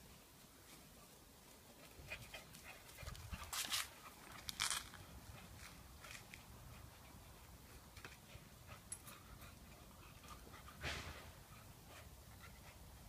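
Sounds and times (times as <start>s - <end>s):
puppies playing: 1.7s - 13.0s.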